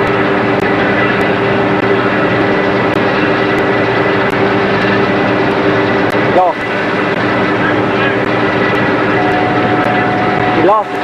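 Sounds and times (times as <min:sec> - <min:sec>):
powerboat engines droning: 0:00.0 - 0:11.0.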